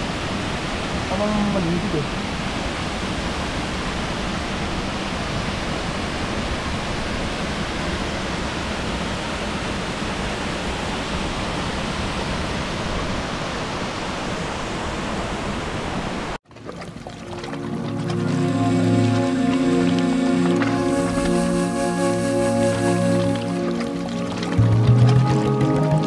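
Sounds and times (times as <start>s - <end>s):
waterfall rushing: 0.0s - 16.4s, 17.2s - 26.0s.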